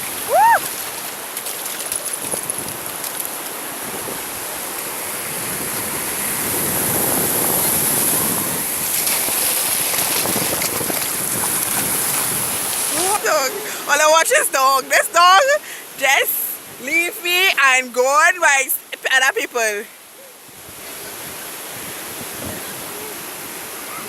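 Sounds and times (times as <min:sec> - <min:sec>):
sea surf washing onto beach: 0:00.0 - 0:24.0.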